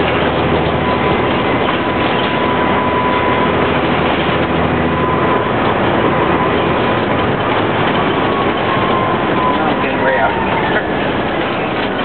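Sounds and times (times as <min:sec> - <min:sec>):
bus engine and road noise: 0:00.0 - 0:12.0
thin steady whine: 0:00.0 - 0:12.0.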